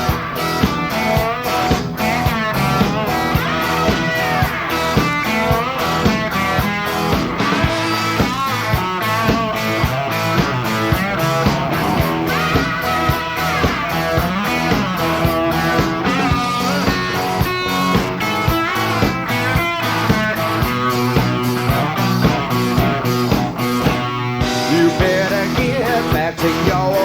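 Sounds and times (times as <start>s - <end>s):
bass guitar: 0.0s - 27.0s
electric guitar lead: 0.0s - 27.0s
steady drum beat: 0.0s - 27.0s.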